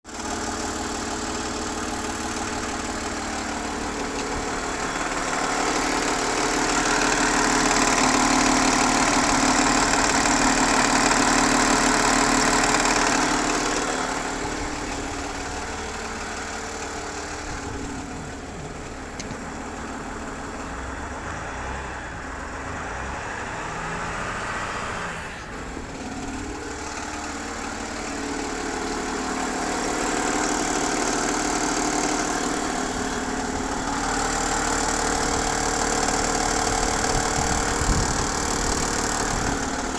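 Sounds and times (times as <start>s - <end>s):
diesel engine idling with chatter: 0.1s - 39.9s.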